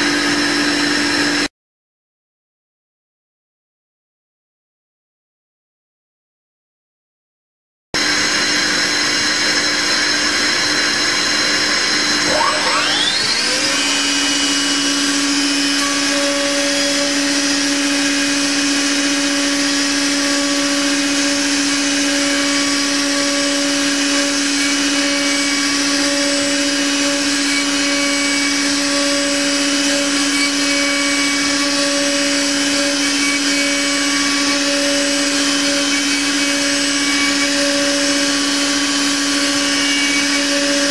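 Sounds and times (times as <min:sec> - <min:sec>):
milling spindle whine: 0:00.0 - 0:01.5, 0:08.0 - 0:40.9.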